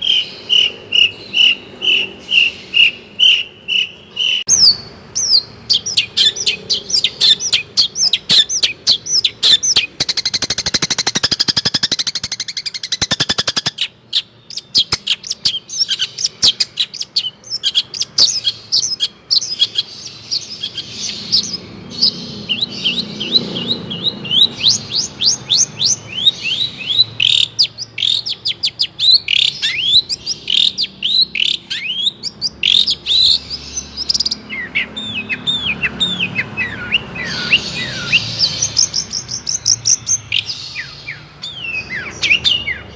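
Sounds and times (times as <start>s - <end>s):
bird singing sharp chirps and whistles: 0.0s - 42.9s.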